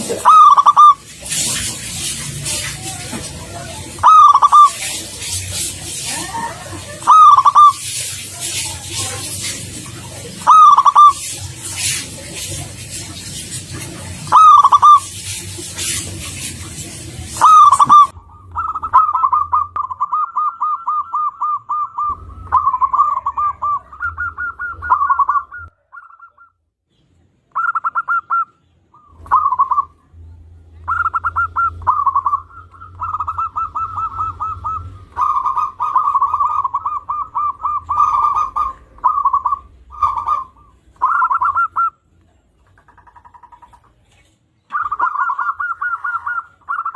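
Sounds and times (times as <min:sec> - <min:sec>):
dove cooing: 0:00.0 - 0:16.0, 0:16.8 - 0:26.4, 0:27.6 - 0:30.0, 0:30.9 - 0:41.9, 0:44.7 - 0:46.9.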